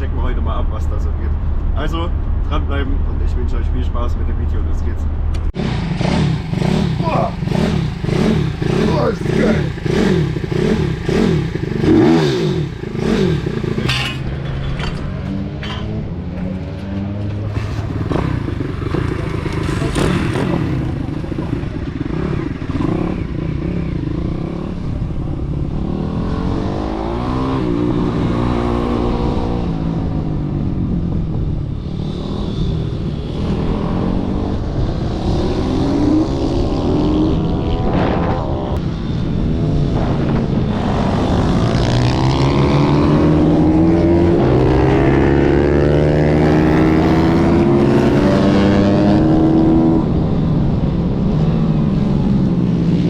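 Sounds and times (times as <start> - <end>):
pit bike engine revving: 5.6 - 29.9, 31.7 - 50.3.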